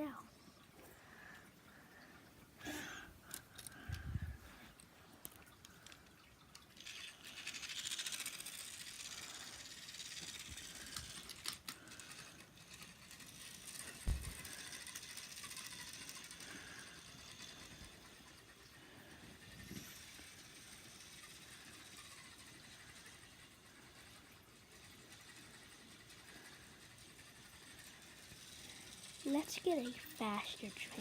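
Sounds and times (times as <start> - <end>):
toy train whirring and rattling: 0.0 - 31.0.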